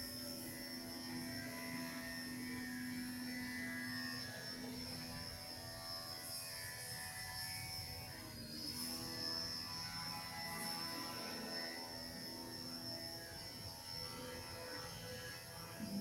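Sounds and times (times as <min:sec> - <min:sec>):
toy helicopter rotor whine: 0:00.0 - 0:16.0.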